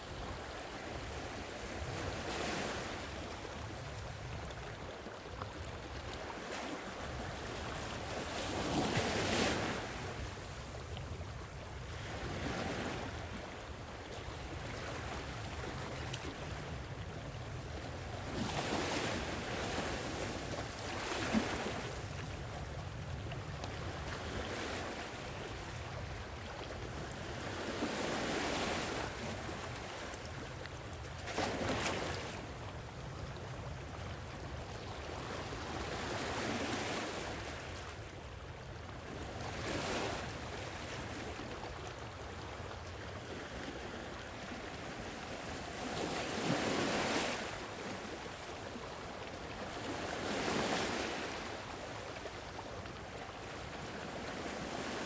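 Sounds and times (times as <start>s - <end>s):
sea waves breaking on shore: 0.0s - 38.1s, 39.2s - 55.0s
low rumble of surf: 0.0s - 55.0s
wind: 0.0s - 55.0s.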